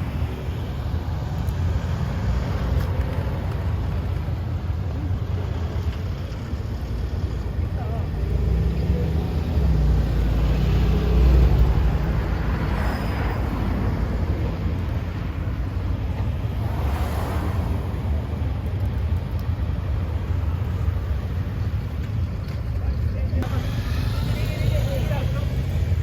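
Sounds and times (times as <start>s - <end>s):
cars driving slowly past: 0.0s - 26.0s.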